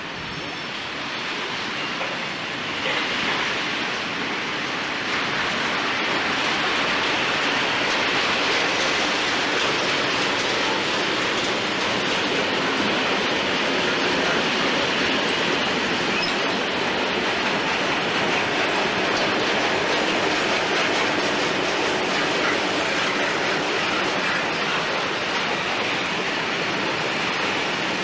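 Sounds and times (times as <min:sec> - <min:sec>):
freight wagons rolling on rails: 0:00.0 - 0:28.0.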